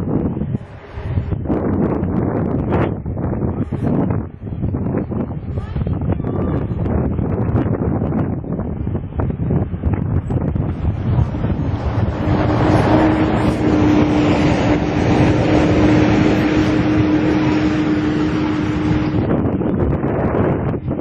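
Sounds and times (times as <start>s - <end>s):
jet engines running: 0.0s - 4.4s, 6.9s - 21.0s
wind buffeting microphone: 0.0s - 21.0s.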